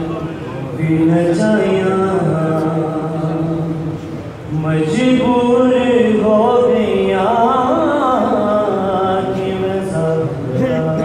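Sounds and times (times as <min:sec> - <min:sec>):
man chanting unaccompanied: 0:00.0 - 0:11.0.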